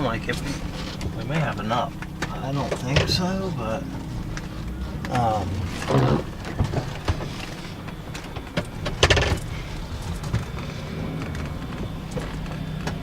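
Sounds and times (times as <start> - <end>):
rattles and knocks: 0.0 - 13.0
vehicle rumble from inside: 0.0 - 13.0.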